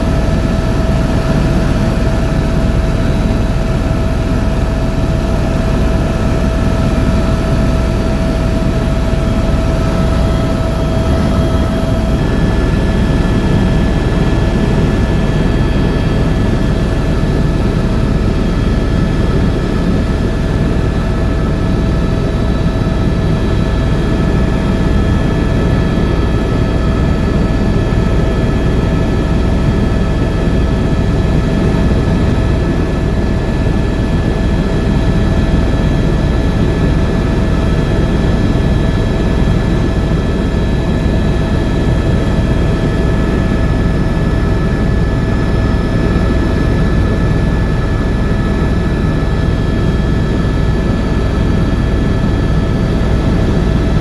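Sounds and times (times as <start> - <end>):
helicopter rotor and engine drone: 0.0 - 54.0
high turbine whine: 0.0 - 54.0.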